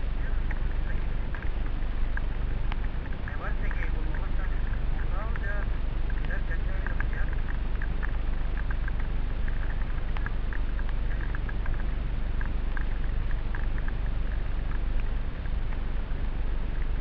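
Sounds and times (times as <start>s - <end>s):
rain drops ticking on helmet: 0.0s - 17.0s
steady low rumble: 0.0s - 17.0s.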